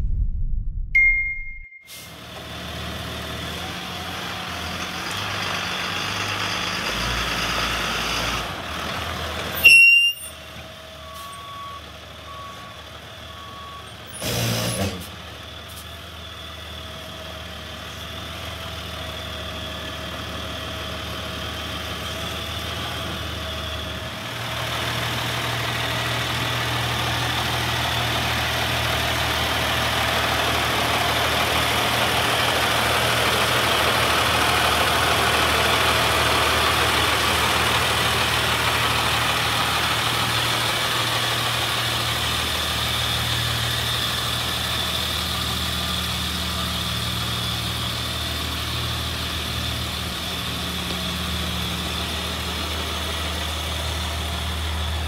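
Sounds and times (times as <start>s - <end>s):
diesel bus engine idling: 2.2s - 14.2s, 15.0s - 55.0s.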